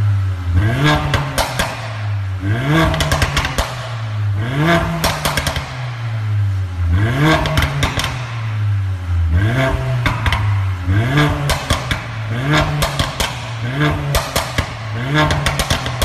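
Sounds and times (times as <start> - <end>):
car engine revving: 0.0 - 16.0
exhaust popping crackle: 0.0 - 16.0.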